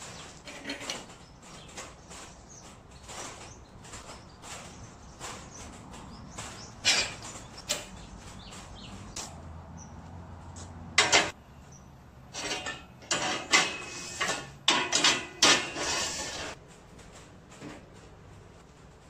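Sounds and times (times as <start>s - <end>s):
metal knocks and clanks: 0.0s - 9.1s, 10.9s - 11.4s, 12.3s - 19.0s
metal clattering and scraping: 0.0s - 9.2s, 10.9s - 11.4s, 12.3s - 19.0s.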